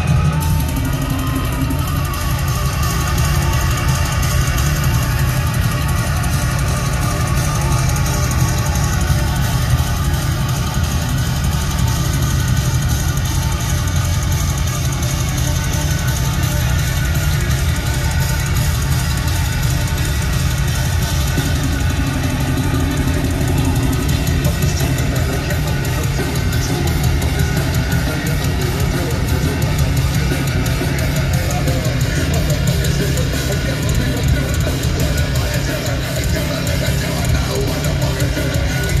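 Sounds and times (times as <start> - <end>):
distorted electric guitars: 0.0 - 39.0
fast dense drumming: 0.0 - 39.0.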